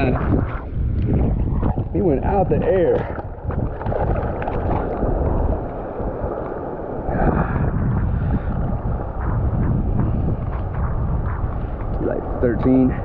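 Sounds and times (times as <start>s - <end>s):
rush of water: 0.0s - 10.9s
choppy surf: 0.0s - 13.0s
wind buffeting microphone: 0.0s - 13.0s.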